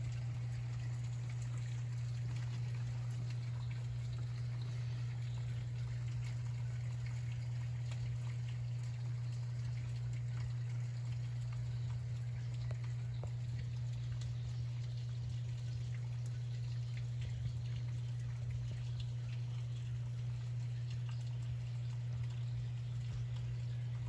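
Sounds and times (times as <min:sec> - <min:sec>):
drips and splashes: 0:00.0 - 0:24.0.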